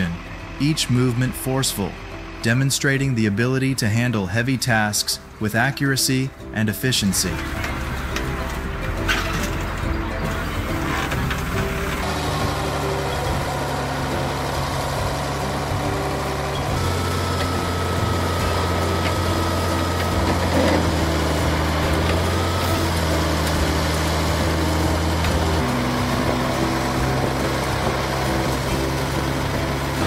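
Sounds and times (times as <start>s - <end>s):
truck engine humming: 0.0s - 30.0s.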